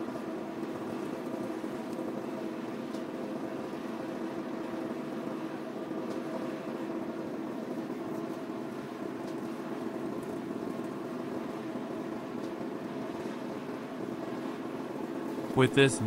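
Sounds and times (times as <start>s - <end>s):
machine engine humming: 0.0s - 16.0s.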